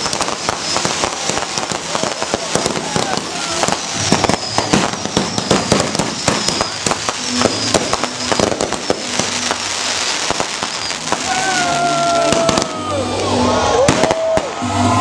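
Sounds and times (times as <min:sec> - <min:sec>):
firework whistles sliding down: 0:00.0 - 0:15.0
fireworks popping and crackling: 0:00.0 - 0:15.0.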